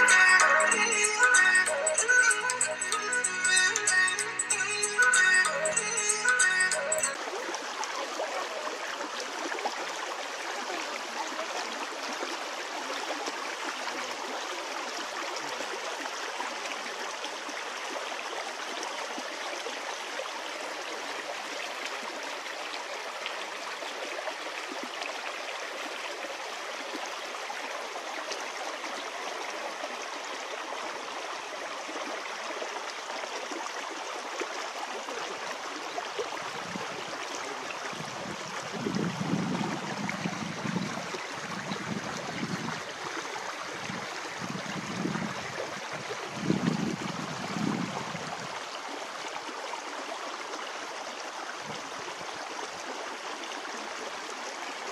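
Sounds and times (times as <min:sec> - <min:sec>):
creek burbling over stones: 0:06.5 - 0:54.9.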